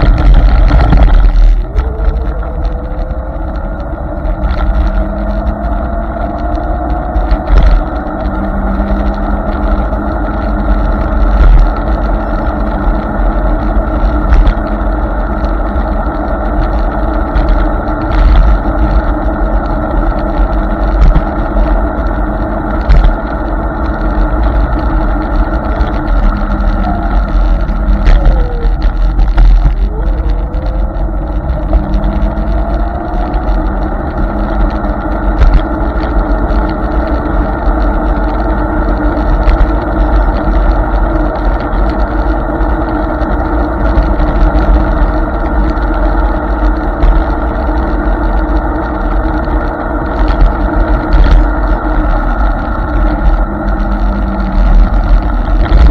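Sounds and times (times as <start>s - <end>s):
faint electric motor hum: 0.0s - 55.9s
wind and tyre noise: 0.0s - 55.9s
wind rumble on microphone: 0.0s - 55.9s.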